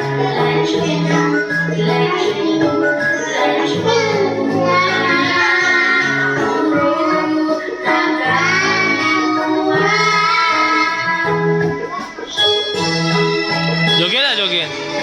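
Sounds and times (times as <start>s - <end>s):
child singing: 0.0s - 12.8s
instrumental backing: 0.0s - 15.0s.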